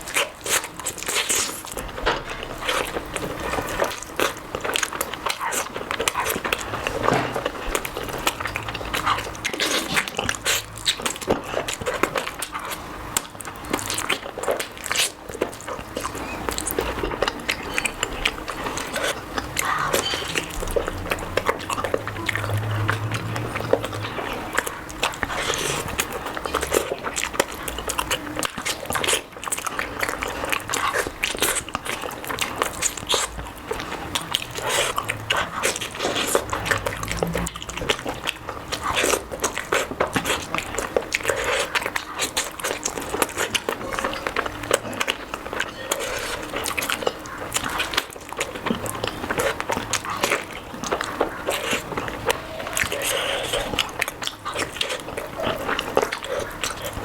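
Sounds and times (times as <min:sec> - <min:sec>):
person biting and chewing food: 0:00.0 - 0:57.0.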